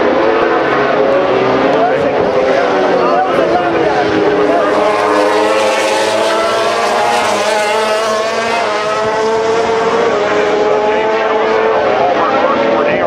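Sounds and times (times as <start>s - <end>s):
racing motorcycle engines: 0.0s - 13.0s.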